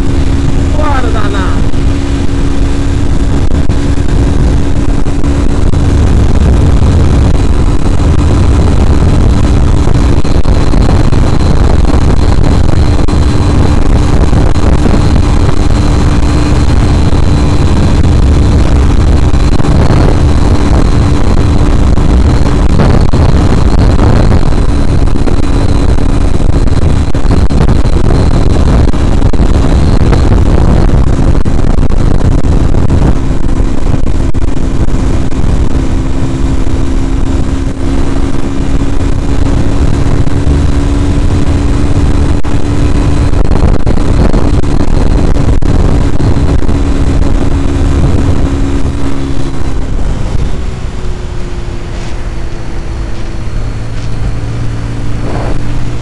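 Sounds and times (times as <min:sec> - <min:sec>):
motorcycle engine at high revs: 0:00.0 - 0:56.0
wind rush over microphone: 0:00.0 - 0:56.0.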